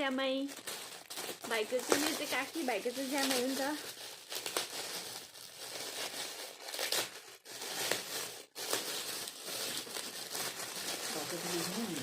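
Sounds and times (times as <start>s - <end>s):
gift wrapping crumpled and torn: 0.0s - 12.0s.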